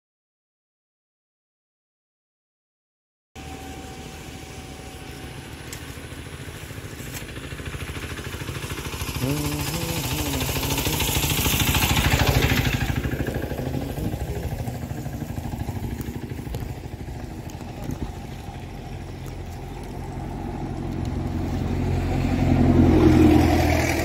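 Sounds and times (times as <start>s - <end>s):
small engine chugging: 3.4s - 24.0s.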